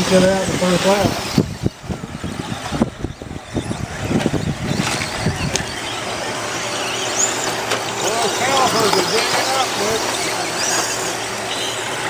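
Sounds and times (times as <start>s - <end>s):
electric motor whines: 0.0s - 12.0s
steady noisy hum: 0.0s - 12.0s.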